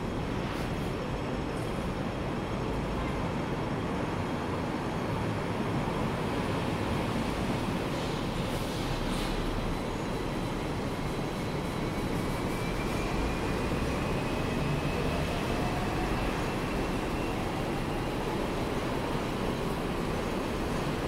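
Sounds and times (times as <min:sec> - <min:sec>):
electric tram rumbling: 0:00.0 - 0:21.0.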